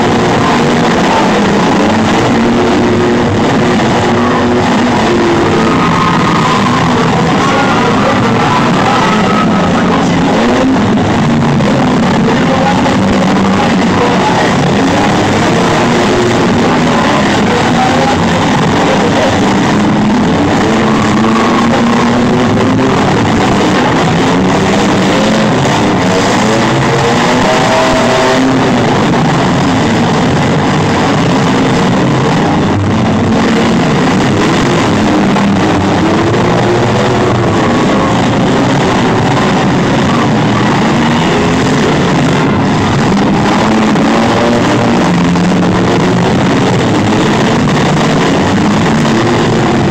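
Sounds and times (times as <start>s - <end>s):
engines revving: 0.0s - 49.9s
loud rock music: 0.0s - 49.9s.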